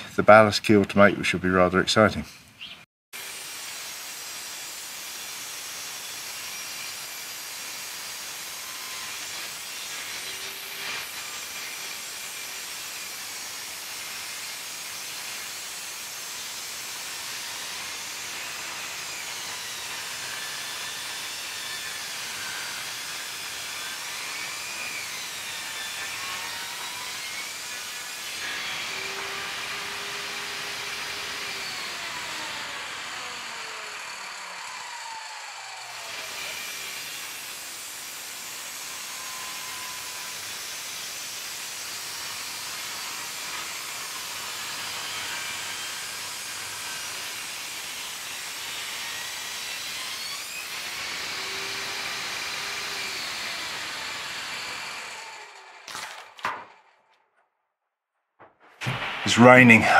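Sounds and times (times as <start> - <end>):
table saw cutting wood: 3.2 - 56.9.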